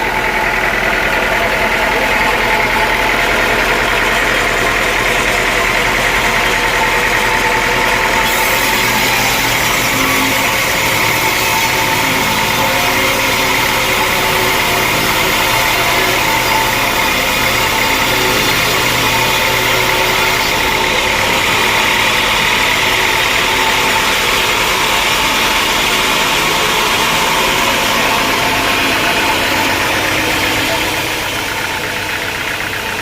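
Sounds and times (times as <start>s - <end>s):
sawmill machinery drone: 0.0s - 33.0s.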